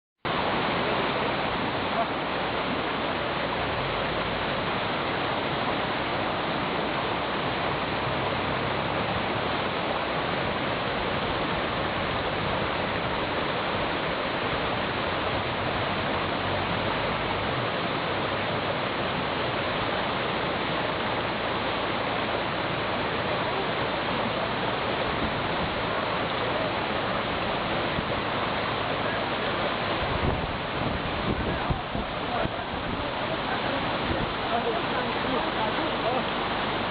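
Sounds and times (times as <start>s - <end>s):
river water rushing: 0.3s - 36.9s.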